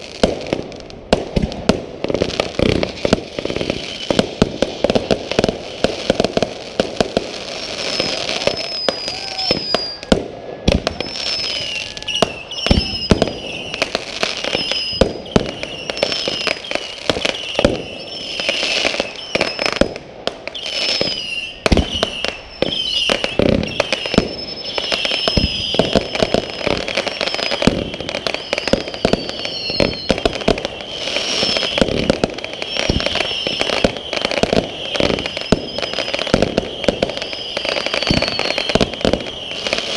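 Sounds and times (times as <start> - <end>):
fireworks bangs and crackling: 0.0 - 39.9
fireworks whistles: 0.0 - 39.9.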